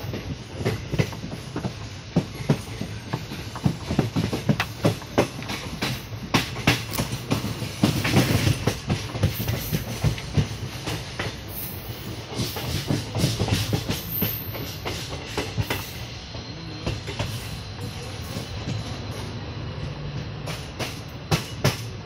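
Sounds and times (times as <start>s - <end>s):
low train rumble: 0.0s - 22.0s.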